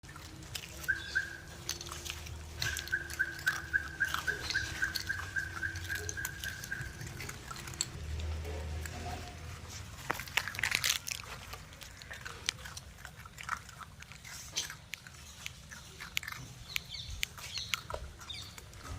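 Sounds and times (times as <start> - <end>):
puppies chewing and lapping: 0.0 - 18.9.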